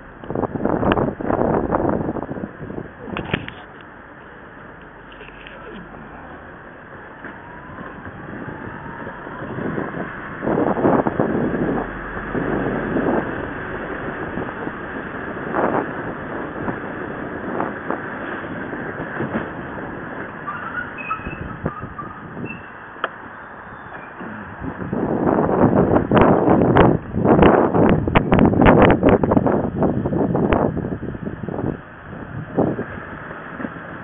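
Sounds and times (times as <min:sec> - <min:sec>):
scooter engine rumble: 0:00.0 - 0:34.0
wind on microphone: 0:00.0 - 0:34.0.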